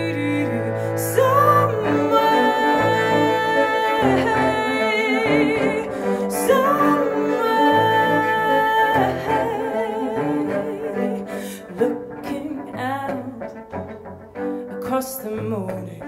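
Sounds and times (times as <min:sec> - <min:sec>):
bowed cello low notes: 0:00.0 - 0:16.0.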